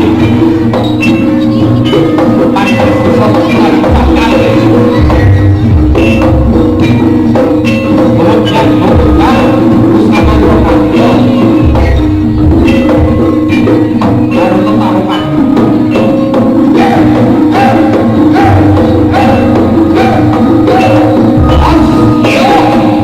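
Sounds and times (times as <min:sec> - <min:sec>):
drums playing rhythm: 0:00.0 - 0:23.0
gongs and metallophones: 0:00.0 - 0:23.0.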